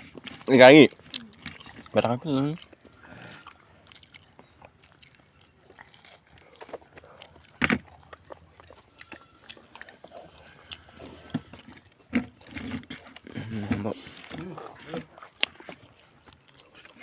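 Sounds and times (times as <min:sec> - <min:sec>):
person chewing crisp food: 0:00.0 - 0:17.0.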